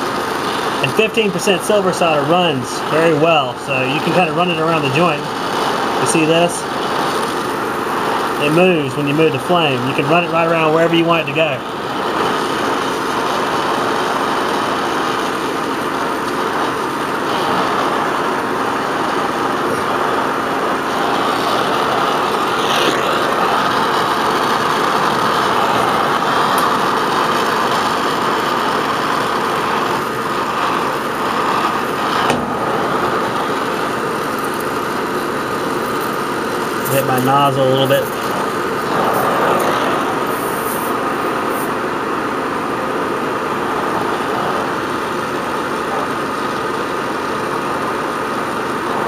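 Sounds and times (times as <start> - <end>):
brazing torch flame hissing: 0.0 - 49.0.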